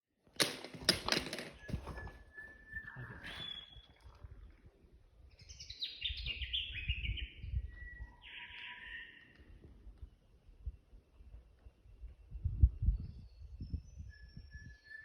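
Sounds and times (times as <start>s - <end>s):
bird singing: 1.5s - 4.6s, 5.2s - 15.0s.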